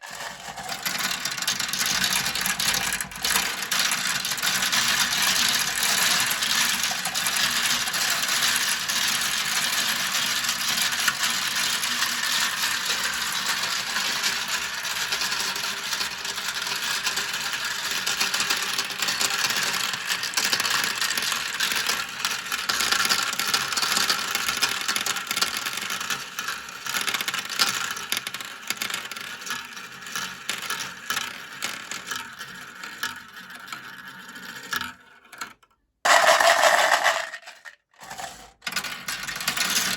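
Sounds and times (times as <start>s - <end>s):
marbles rattling down plastic track: 0.0s - 35.5s, 36.1s - 39.9s.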